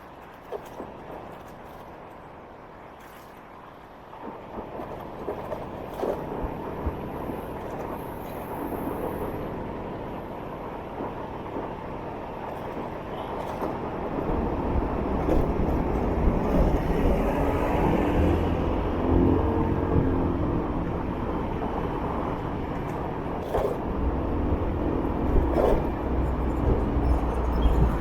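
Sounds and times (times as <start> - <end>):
road and traffic noise: 0.0 - 28.0.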